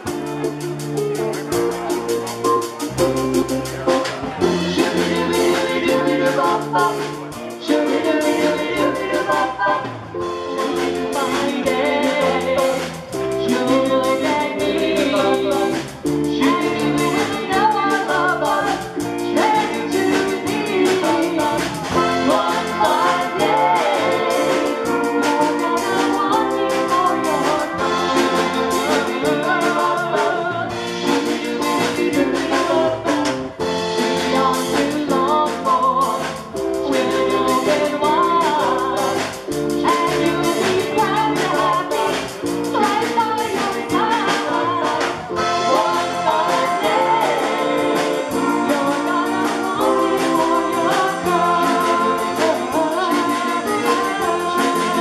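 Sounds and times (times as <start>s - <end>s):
amplified instrumental backing: 0.0s - 55.0s
vocal group singing pop song: 3.8s - 55.0s.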